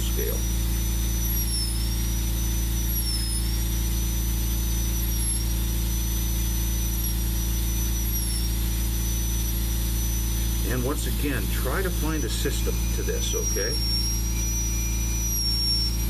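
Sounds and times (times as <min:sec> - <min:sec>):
low motor hum: 0:00.0 - 0:16.0
rotary carving tool whining: 0:00.0 - 0:16.0.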